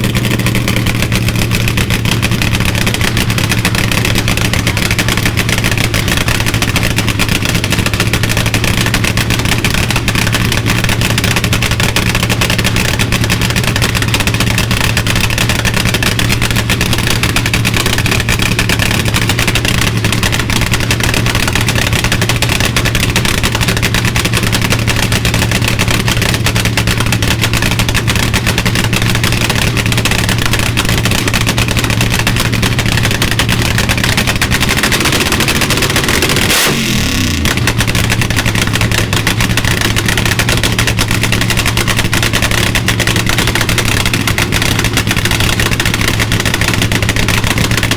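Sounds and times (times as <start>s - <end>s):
vee eight engine idling roughly: 0.0s - 47.9s.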